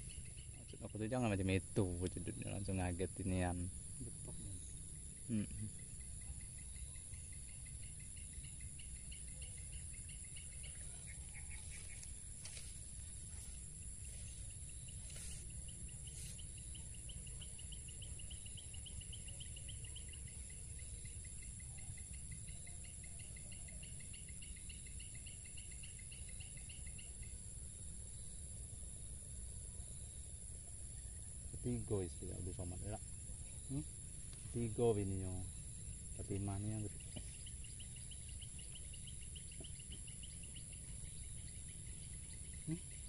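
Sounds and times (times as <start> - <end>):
insects chirping and trilling: 0.0 - 43.0.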